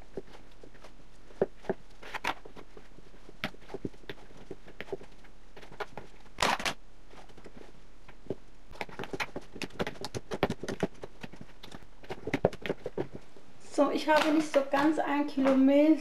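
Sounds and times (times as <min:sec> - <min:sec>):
hands kneading sticky dough: 0:00.0 - 0:15.8.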